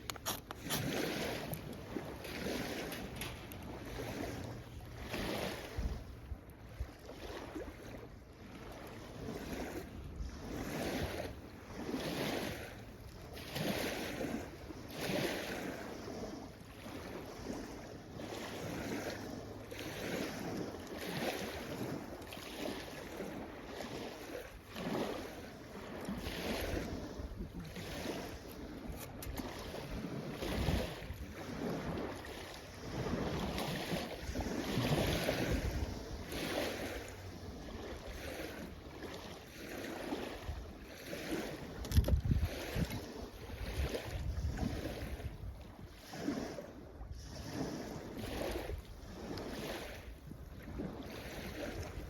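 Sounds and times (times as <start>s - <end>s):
small waves washing ashore: 0.0s - 52.0s
wind rumbling on microphone: 0.0s - 52.0s.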